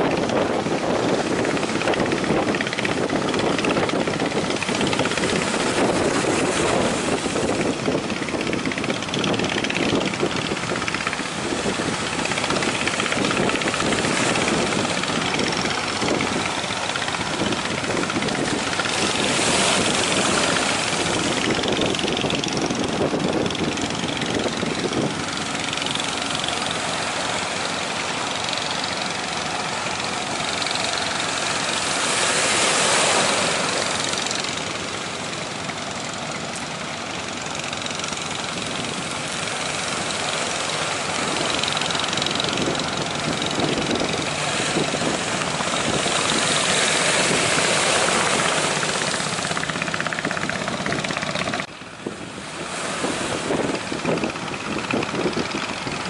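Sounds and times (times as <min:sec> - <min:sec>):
boat engine running: 0:00.0 - 0:56.0
sea wash: 0:00.0 - 0:56.0.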